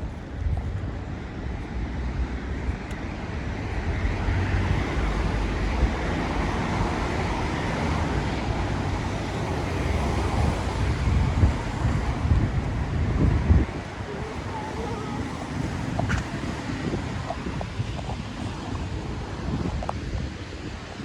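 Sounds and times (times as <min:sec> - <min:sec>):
low wind rumble on microphone: 0:00.0 - 0:21.0.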